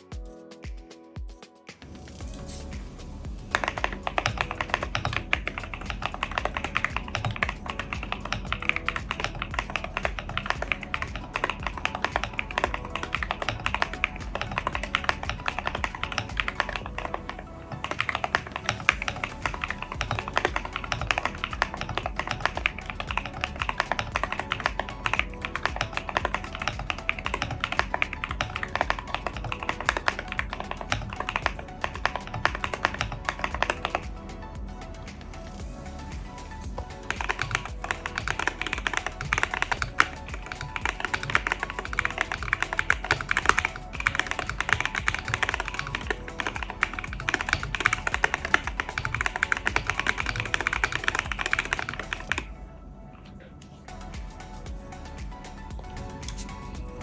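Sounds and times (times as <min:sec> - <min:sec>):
background music: 0:00.0 - 0:57.0
mechanical keyboard typing: 0:03.5 - 0:34.1, 0:37.1 - 0:52.5.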